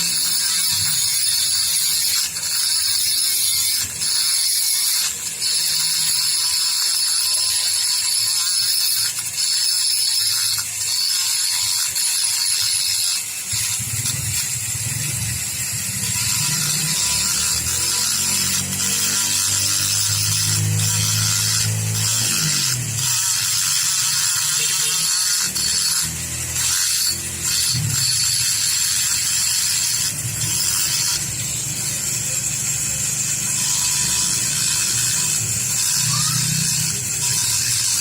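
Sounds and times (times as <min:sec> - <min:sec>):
power tool whining: 0:00.0 - 0:38.0.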